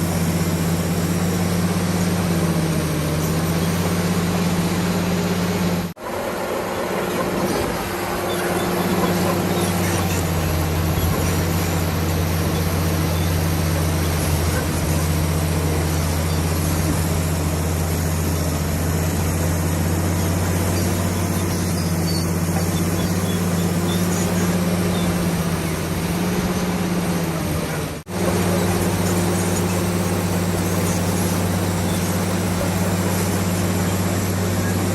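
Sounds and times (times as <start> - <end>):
bulldozer diesel engine droning: 0.0 - 34.9.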